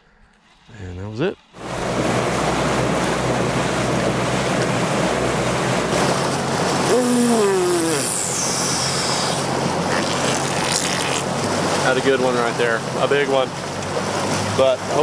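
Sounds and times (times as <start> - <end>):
outboard motor running: 1.6 - 15.0
rush of wind and water spray: 1.6 - 15.0.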